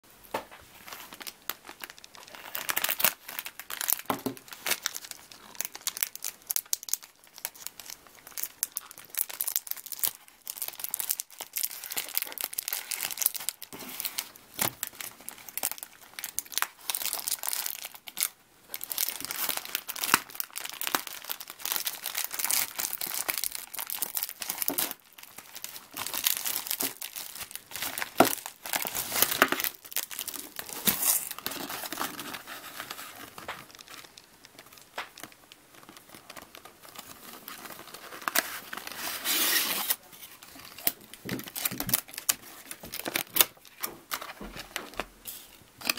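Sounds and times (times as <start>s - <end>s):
plastic crinkling and rustling: 0.3s - 45.9s
plastic tearing: 0.8s - 45.9s.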